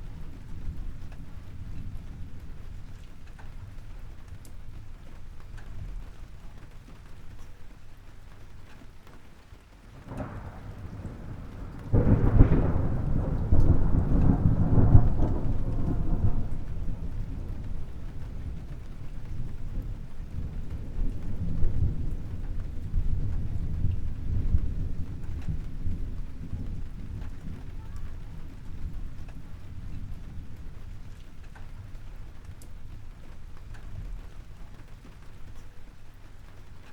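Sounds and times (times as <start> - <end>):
thunder rumbling and cracking: 0.0 - 7.5, 9.9 - 36.9
heavy rain: 0.0 - 36.9.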